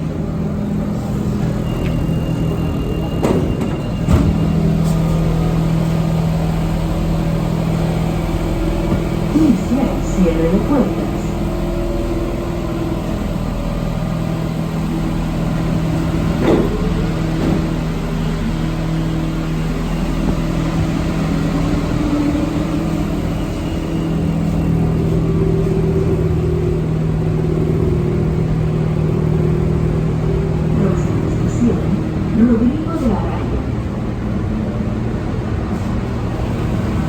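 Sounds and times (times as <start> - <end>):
metro traction hum: 0.0 - 37.0.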